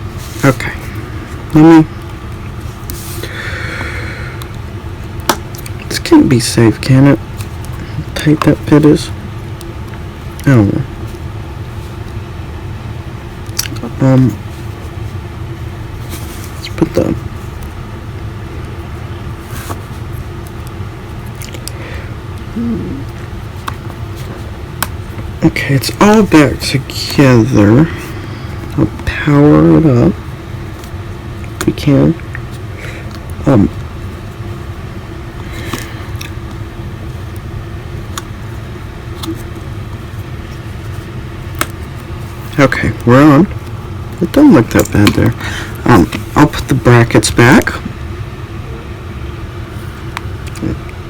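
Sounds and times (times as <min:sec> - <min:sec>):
low background hum: 0:00.0 - 0:51.0.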